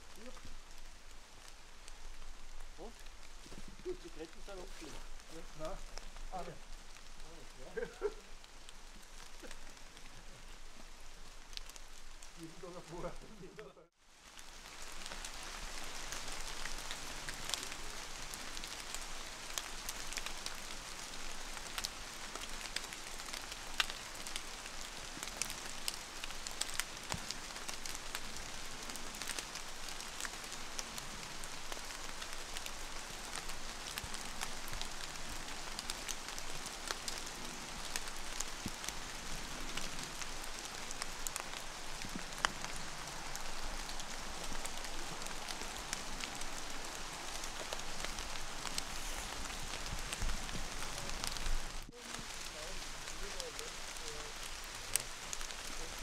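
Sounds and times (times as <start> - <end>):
light rain on leaves: 0.0 - 56.0.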